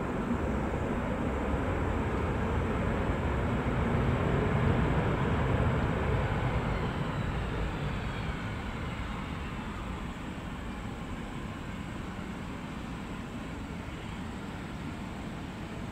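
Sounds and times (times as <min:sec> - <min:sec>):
jet engines on landing rollout: 0:00.0 - 0:15.9.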